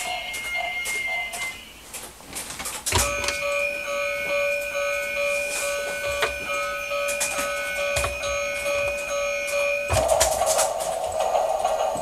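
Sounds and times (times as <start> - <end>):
toy train electronic beeping: 0.0 - 2.0, 2.9 - 12.0.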